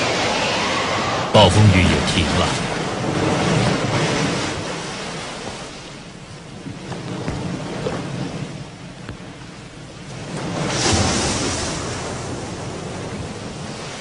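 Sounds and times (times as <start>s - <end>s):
crackles of receding water: 0.0s - 14.0s
waves breaking on sandy shore: 0.0s - 14.0s.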